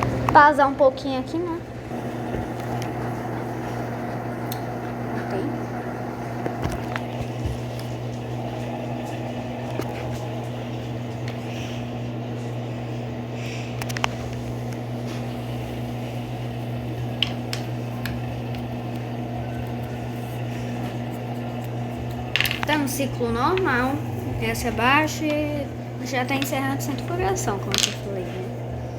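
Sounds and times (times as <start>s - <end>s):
washing machine spinning: 0.0s - 28.9s.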